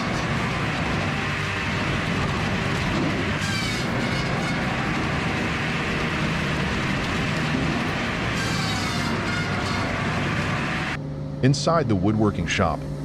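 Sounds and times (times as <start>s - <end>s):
heavy machinery running: 0.0s - 11.0s
high falling squeal: 0.0s - 11.0s.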